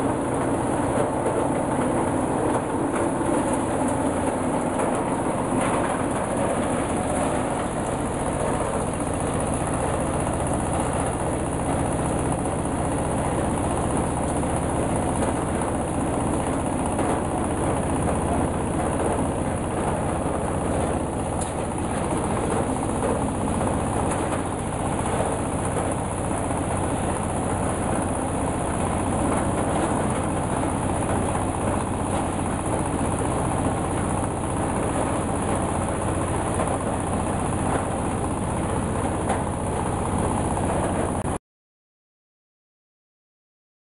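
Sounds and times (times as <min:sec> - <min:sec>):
diesel engine running: 0:00.0 - 0:41.4.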